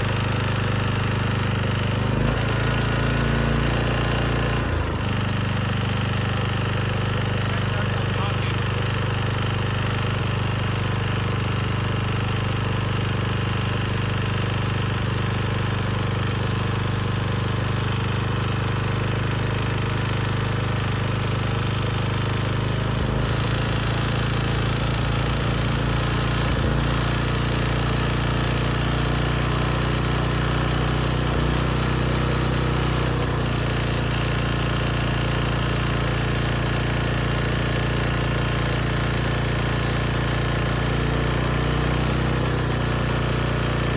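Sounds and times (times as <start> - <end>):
engine knocking: 0.0 - 43.9
generator engine running: 0.0 - 43.9.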